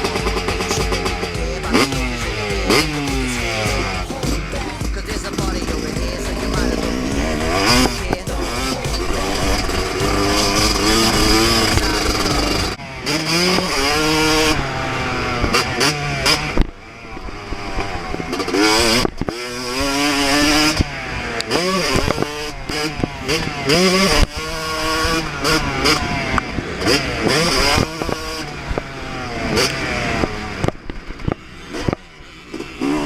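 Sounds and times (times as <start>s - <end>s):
motocross engine revving: 0.0s - 33.0s.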